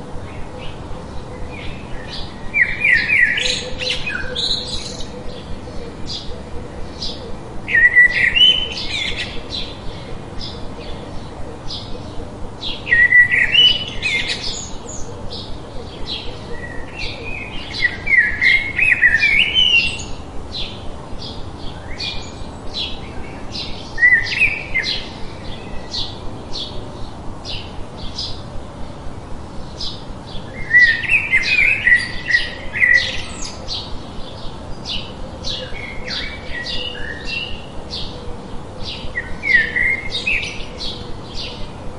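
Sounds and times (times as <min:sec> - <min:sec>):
bird warbling song: 0:00.0 - 0:41.9
bird chirping: 0:00.2 - 0:29.0, 0:29.6 - 0:41.9.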